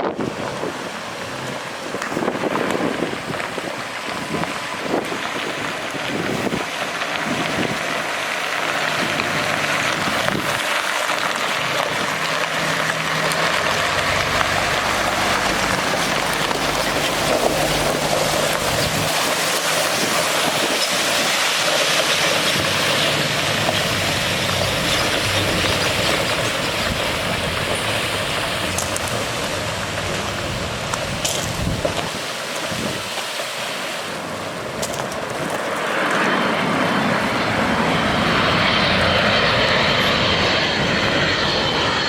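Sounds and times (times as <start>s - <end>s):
diesel engine running: 0.0s - 32.2s, 34.2s - 42.0s
water gushing from spray: 0.0s - 42.0s.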